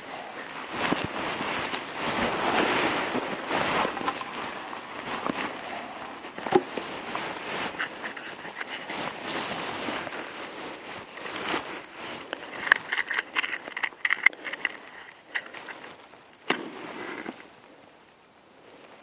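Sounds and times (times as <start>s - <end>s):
twigs and wood rustling and knocking: 0.0s - 17.7s.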